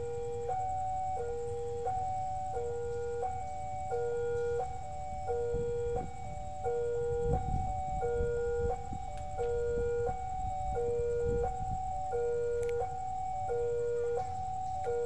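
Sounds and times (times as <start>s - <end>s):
level crossing alarm tune: 0.0s - 15.0s.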